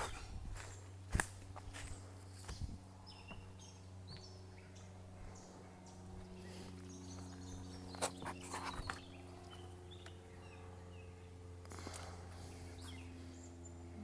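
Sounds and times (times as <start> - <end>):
steady low hum: 0.0 - 14.0
small birds chirping: 1.6 - 14.0.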